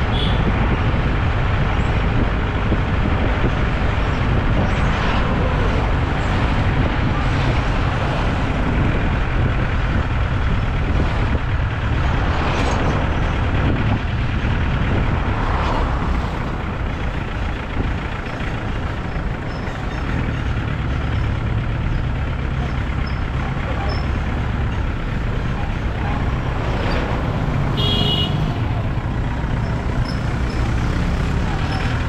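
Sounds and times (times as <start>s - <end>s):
passing traffic noise: 0.0s - 32.0s
vehicle engine and road noise: 0.0s - 32.0s.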